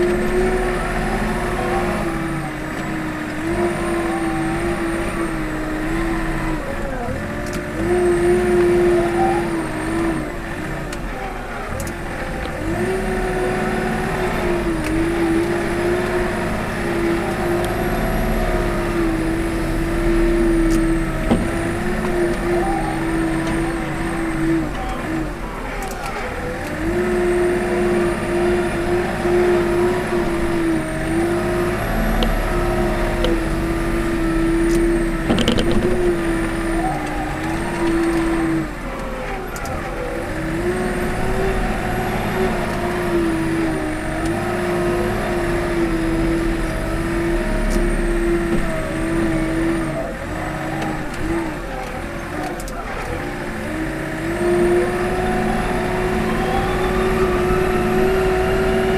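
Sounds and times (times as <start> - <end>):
loader diesel engine whining: 0.0 - 58.9.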